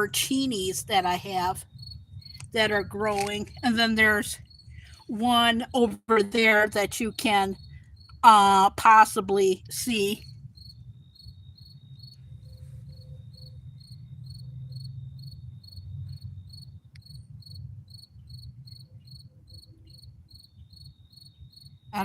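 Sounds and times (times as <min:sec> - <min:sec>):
crickets chirping: 0:00.0 - 0:22.0
high insect trill: 0:00.4 - 0:05.7, 0:06.3 - 0:08.3, 0:09.9 - 0:22.0.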